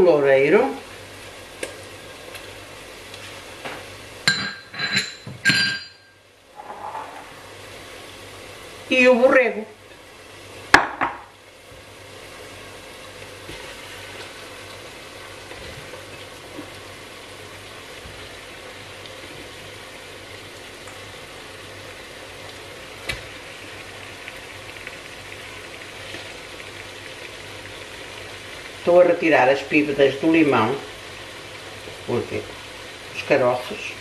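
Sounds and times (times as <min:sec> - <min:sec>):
food sizzling in a pot: 0:00.0 - 0:34.0.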